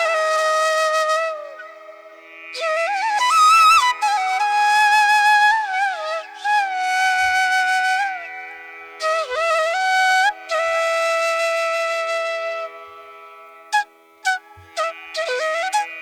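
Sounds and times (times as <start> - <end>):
flute playing long bending notes: 0.0 - 16.0.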